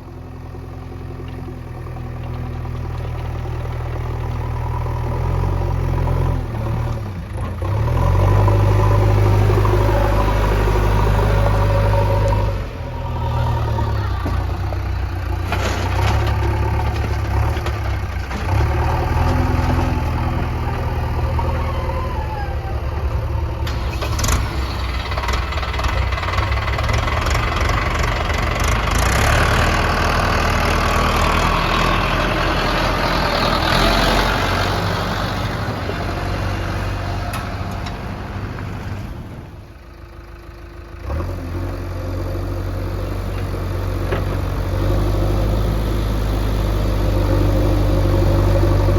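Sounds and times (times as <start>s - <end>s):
diesel engines running: 0.0s - 48.9s.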